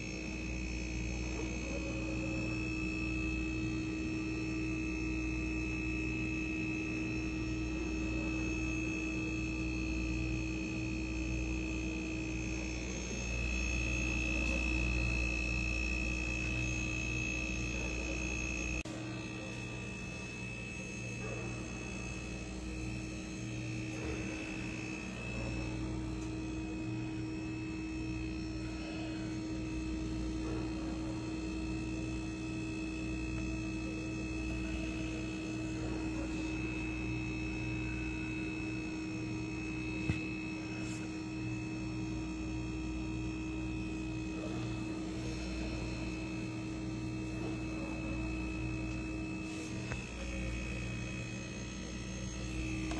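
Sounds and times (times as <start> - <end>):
fan motor hum and whine: 0.0 - 52.9.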